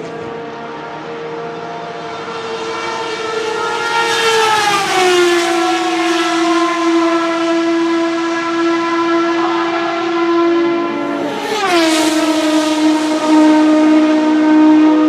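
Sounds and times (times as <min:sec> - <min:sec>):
race car engine passing: 0:00.0 - 0:15.0.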